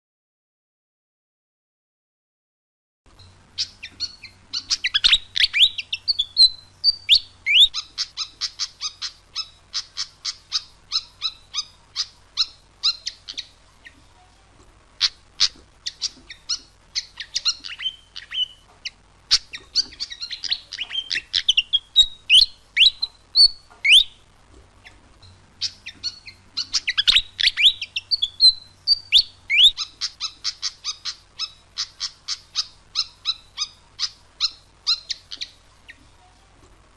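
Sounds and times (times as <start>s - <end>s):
bird chattering and whistling: 3.2s - 14.0s, 15.0s - 36.0s.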